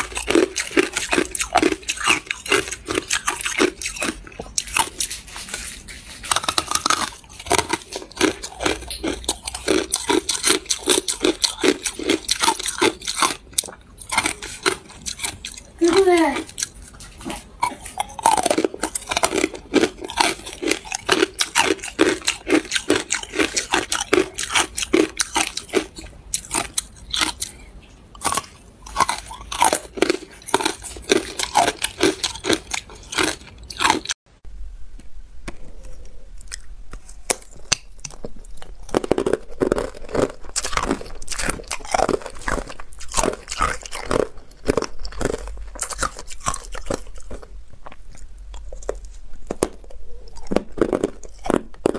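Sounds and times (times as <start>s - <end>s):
ice being chewed and crunched: 0.0s - 34.2s, 35.5s - 51.9s.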